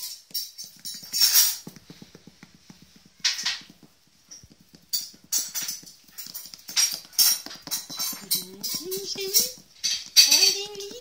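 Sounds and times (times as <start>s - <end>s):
puppy claws scratching and tapping: 0.0s - 11.0s.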